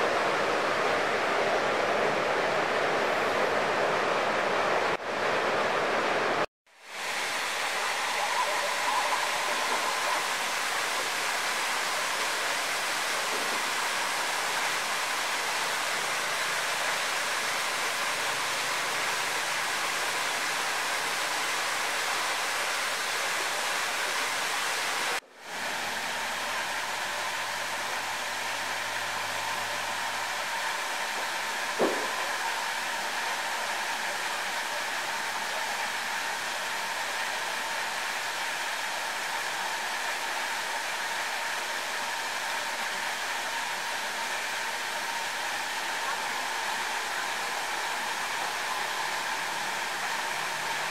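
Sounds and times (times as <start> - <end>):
flowing water: 0.0 - 50.9.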